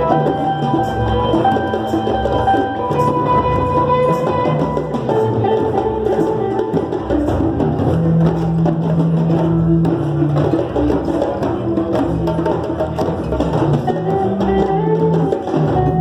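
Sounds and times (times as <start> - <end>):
hand drums playing fast rhythm: 0.0 - 16.0
high melody line: 0.0 - 16.0
low held instrument notes: 0.0 - 16.0.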